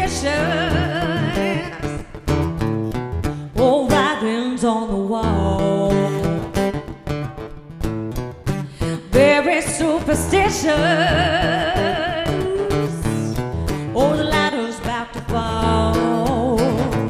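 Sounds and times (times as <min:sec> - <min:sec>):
woman singing: 0:00.0 - 0:02.3, 0:03.4 - 0:06.6, 0:08.8 - 0:17.0
strummed acoustic guitar: 0:00.0 - 0:17.0.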